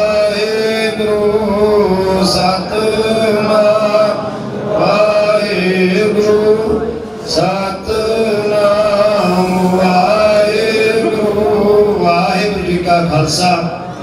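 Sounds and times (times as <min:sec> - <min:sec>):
men chanting: 0:00.0 - 0:13.8.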